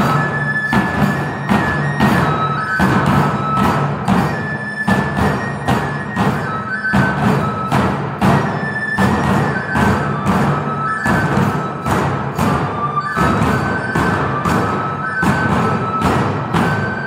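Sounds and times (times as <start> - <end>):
bamboo flute high notes: 0.0 - 17.0
large taiko drums: 0.0 - 17.0.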